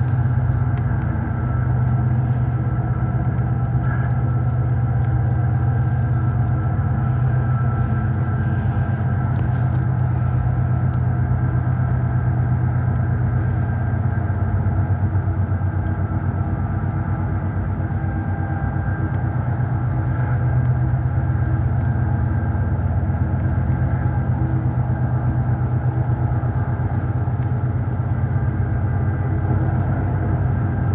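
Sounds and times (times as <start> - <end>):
diesel locomotive engine drone: 0.0 - 30.9.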